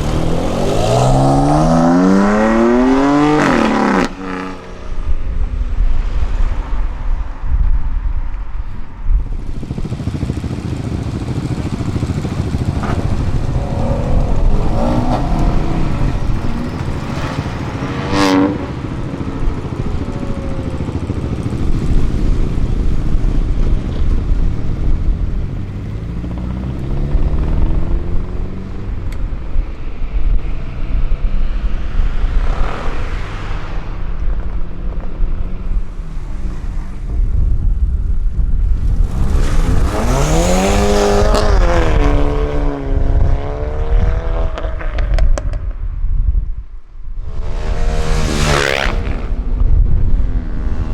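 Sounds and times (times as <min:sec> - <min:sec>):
engine accelerating: 0:00.0 - 0:06.4, 0:09.2 - 0:45.6, 0:47.2 - 0:50.9
vehicles driving past: 0:00.0 - 0:46.0, 0:47.2 - 0:50.9.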